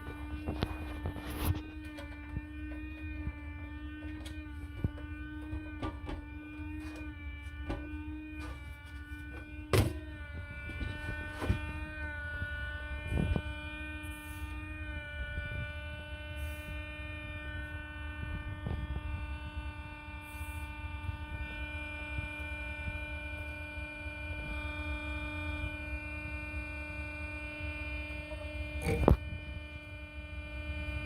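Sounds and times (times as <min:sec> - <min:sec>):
pump whining and buzzing: 0:00.0 - 0:31.0.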